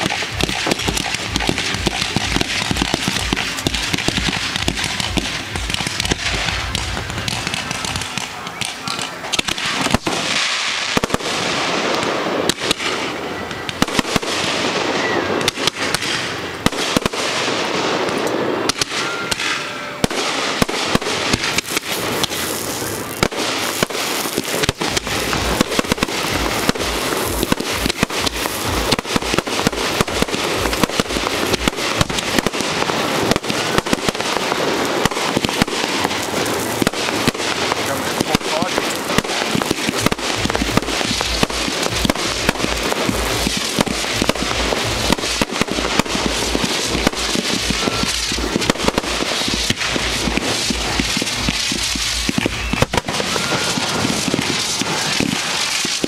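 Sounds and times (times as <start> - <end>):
deep firework booms: 0.0 - 56.0
firework shells bursting: 0.0 - 56.0.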